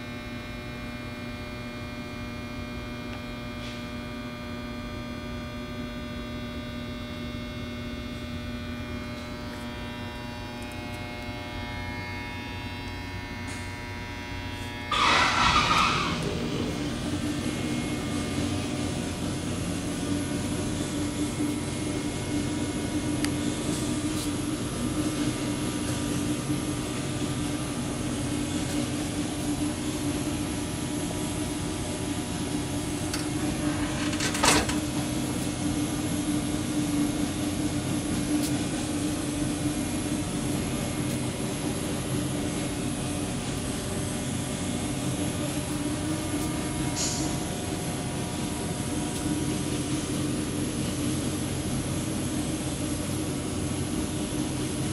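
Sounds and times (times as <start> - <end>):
machinery hum: 0.0 - 54.9.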